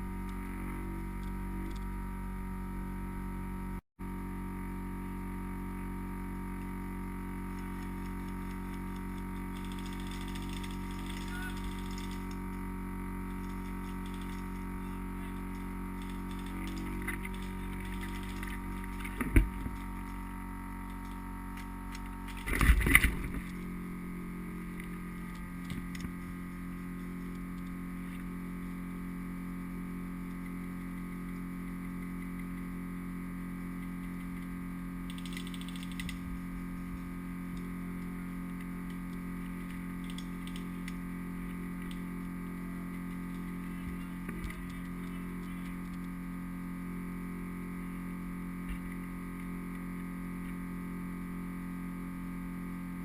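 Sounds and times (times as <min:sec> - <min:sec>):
small fan humming muffled: 0:00.0 - 0:53.0.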